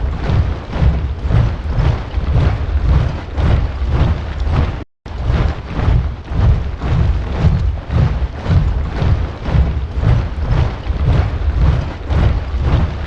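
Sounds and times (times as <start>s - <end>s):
soldiers marching in step: 0.0s - 13.0s.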